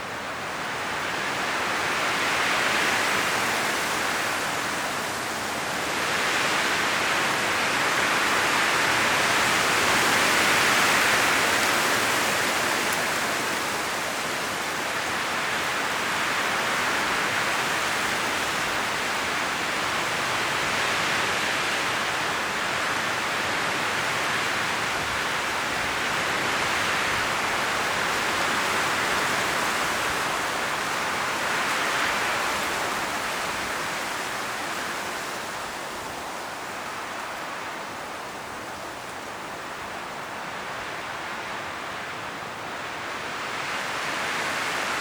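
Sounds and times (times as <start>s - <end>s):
wind rustling tree leaves: 0.0s - 45.0s.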